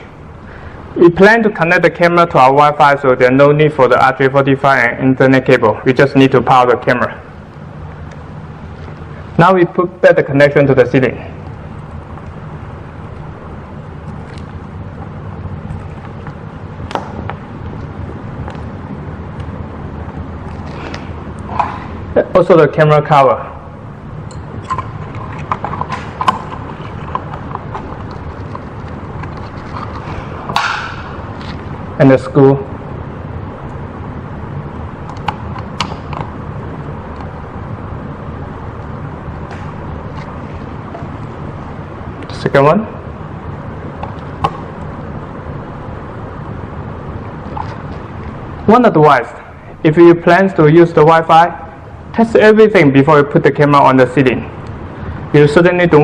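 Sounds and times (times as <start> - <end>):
low background rumble: 0.0 - 56.0
steady background hum: 0.0 - 56.0.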